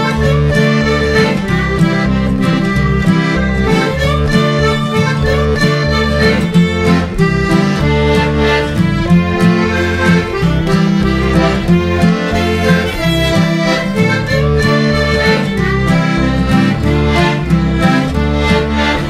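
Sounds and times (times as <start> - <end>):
accordion folk music: 0.0 - 19.0.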